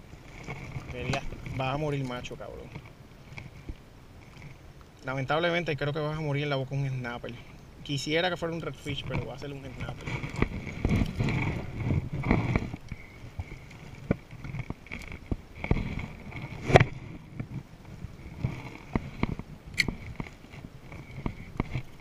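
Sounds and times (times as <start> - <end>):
water sloshing against kayak: 0.0 - 5.0, 8.6 - 22.0.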